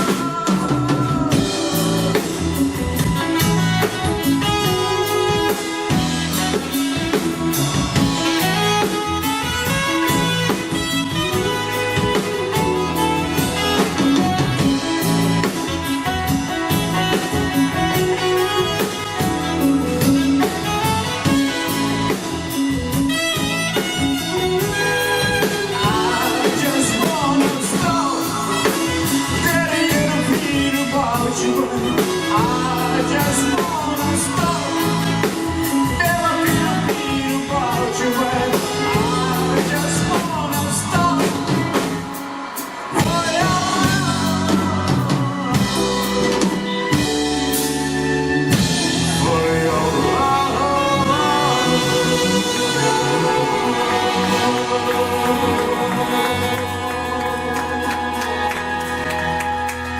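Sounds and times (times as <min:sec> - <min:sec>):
bass: 0:00.0 - 0:59.9
drums: 0:00.0 - 0:59.9
guitar: 0:00.0 - 0:59.9
sliding lead melody: 0:00.0 - 0:59.9.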